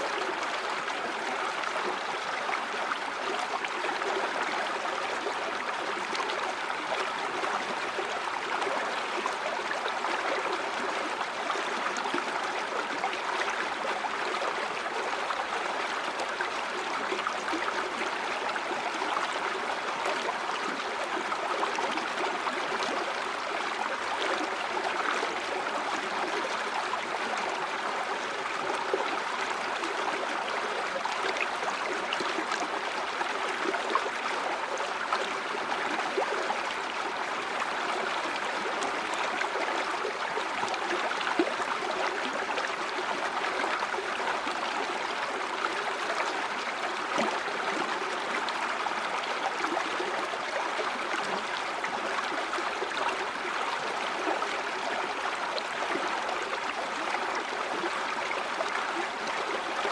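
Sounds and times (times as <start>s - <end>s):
stream running over rocks: 0.0s - 59.9s.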